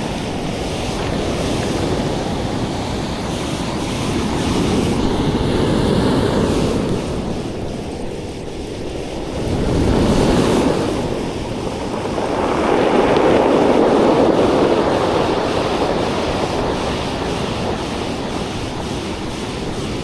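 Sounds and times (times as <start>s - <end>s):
surf washing onto a beach: 0.0s - 20.0s
wind buffeting the microphone: 0.0s - 20.0s.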